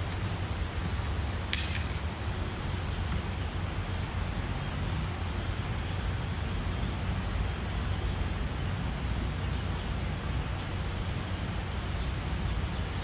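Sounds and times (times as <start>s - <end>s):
traffic rumble on a bridge: 0.0s - 13.0s.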